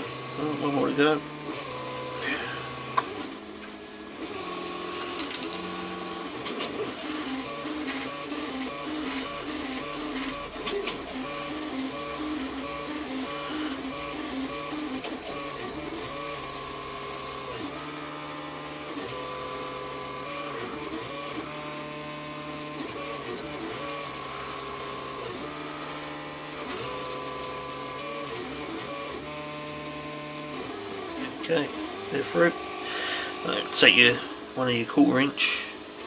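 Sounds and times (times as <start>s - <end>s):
stepper motors whining: 0.0s - 36.0s.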